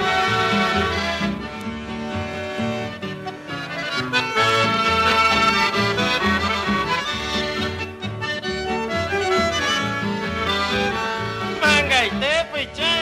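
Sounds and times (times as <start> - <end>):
accordion chamame music: 0.0 - 13.0
repeated bass notes: 0.0 - 13.0.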